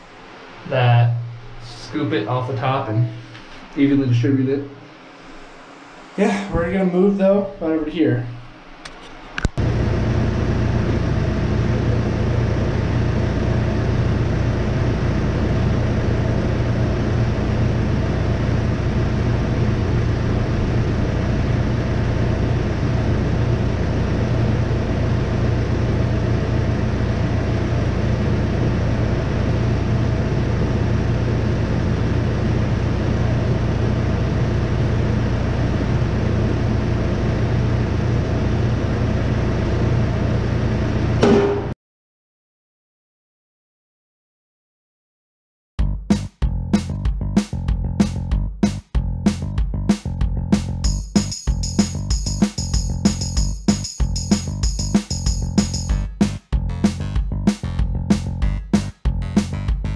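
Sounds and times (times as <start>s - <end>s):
machine droning: 0.0s - 41.8s, 50.2s - 59.9s.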